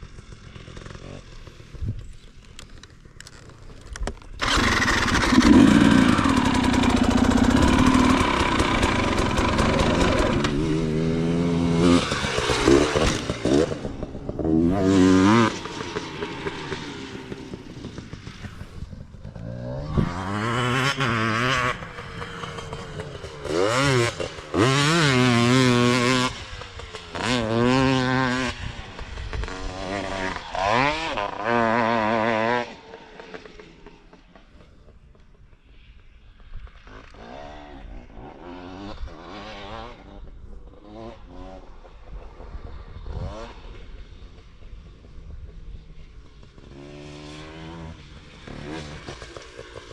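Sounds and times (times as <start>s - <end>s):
dirt bike engine revving: 0.0s - 1.8s, 4.4s - 34.7s, 36.8s - 49.9s.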